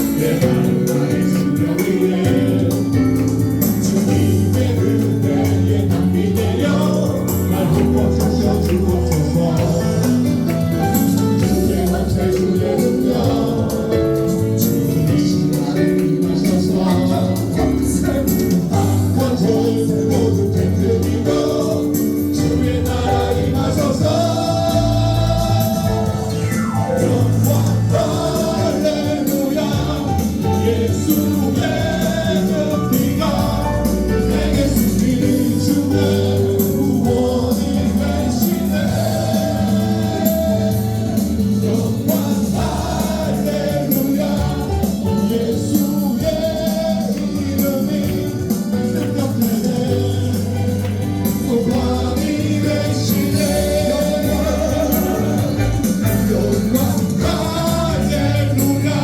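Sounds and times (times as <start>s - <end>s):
band with steady beat: 0.0s - 59.0s
group of voices singing: 0.0s - 59.0s.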